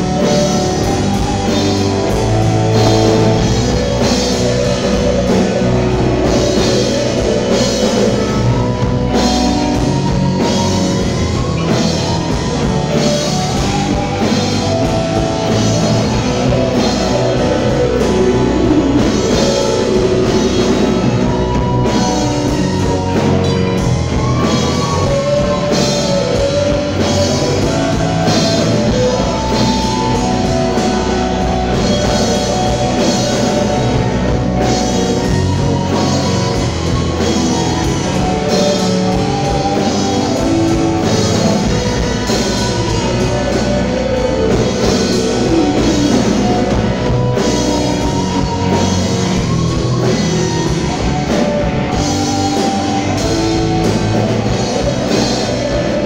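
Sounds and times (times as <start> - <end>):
bass guitar: 0.0 - 56.0
drum kit: 0.0 - 56.0
electric guitar lead with bent notes: 0.0 - 56.0.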